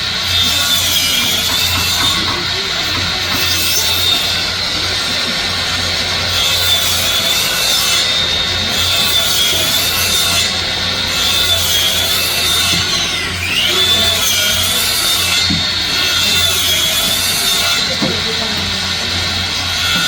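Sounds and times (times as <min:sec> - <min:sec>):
miter saw cutting wood: 0:00.0 - 0:20.0.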